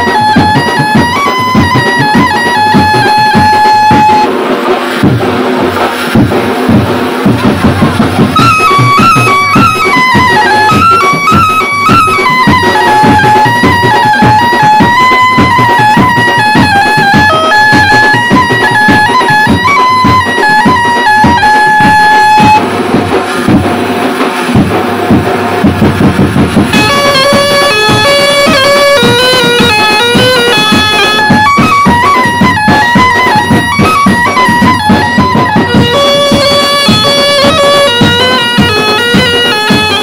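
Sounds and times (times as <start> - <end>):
music with steady beat: 0.0 - 40.0
stepping melody line: 0.0 - 40.0.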